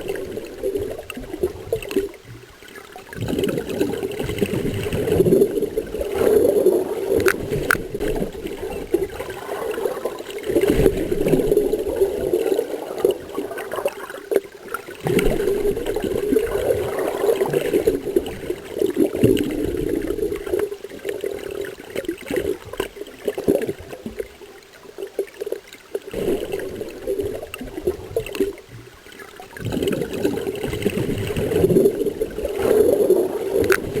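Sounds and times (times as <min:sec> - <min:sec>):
water gurgling and sloshing: 0:00.0 - 0:34.0.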